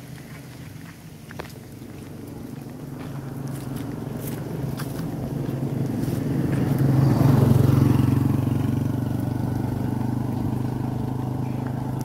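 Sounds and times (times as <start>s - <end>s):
motorcycle passing by: 1.8s - 12.0s.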